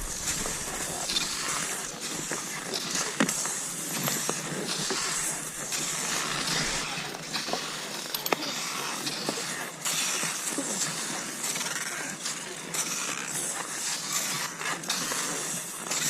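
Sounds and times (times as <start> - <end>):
skis gliding over snow: 0.0 - 16.0.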